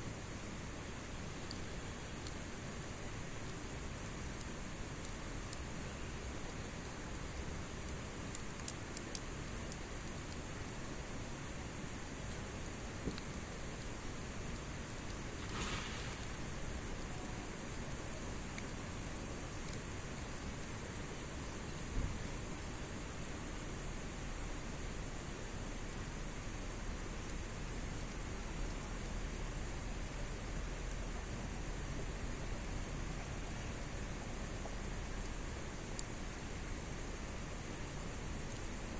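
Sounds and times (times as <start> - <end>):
campfire hissing and popping: 0.4 - 22.6, 27.4 - 38.9.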